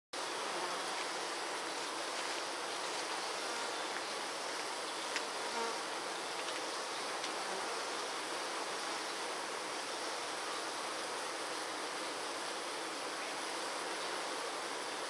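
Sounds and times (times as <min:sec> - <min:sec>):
bees buzzing: 0:00.2 - 0:15.0.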